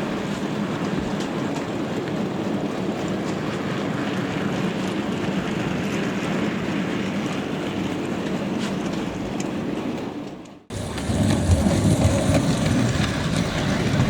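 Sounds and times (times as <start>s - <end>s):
model train humming and rumbling: 0.0s - 14.0s.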